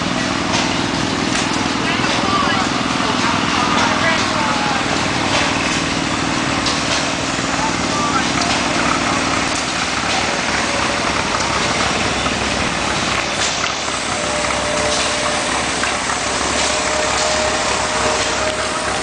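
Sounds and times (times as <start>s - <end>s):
gas engines clattering: 0.0s - 19.0s
thin steady whine: 1.6s - 19.0s.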